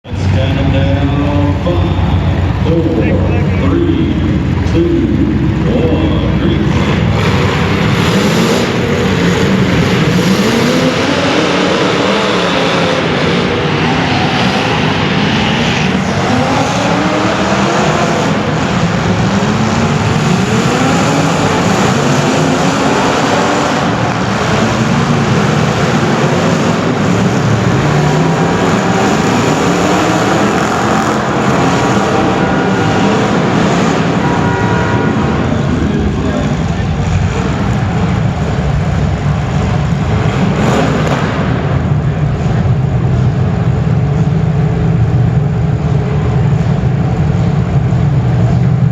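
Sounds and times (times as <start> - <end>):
racing car engines at full throttle: 0.0 - 48.9.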